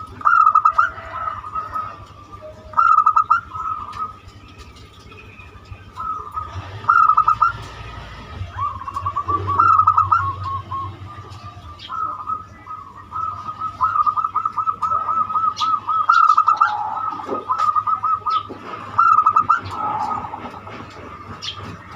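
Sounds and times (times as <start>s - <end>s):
dove cooing: 0.0s - 21.9s.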